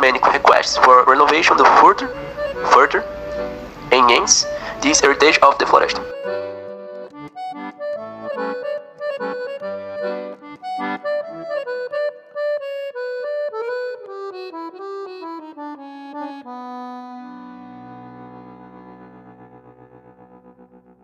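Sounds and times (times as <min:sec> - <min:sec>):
accordion music: 0:00.0 - 0:21.0.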